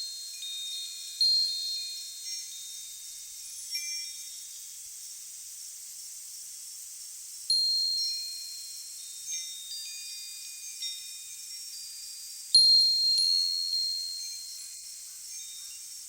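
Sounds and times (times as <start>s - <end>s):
wind chimes ringing: 0.0s - 4.6s, 7.5s - 16.0s.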